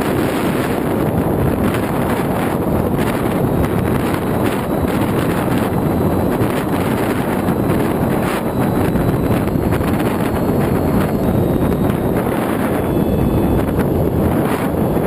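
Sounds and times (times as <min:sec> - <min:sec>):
faint high whine: 0:00.0 - 0:15.0
wind buffeting microphone: 0:00.0 - 0:15.0.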